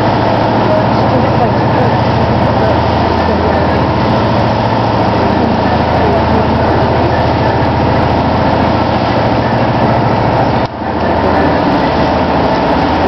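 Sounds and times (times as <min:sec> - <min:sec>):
boat engine drone: 0:00.0 - 0:13.0
loud rushing noise: 0:00.0 - 0:13.0.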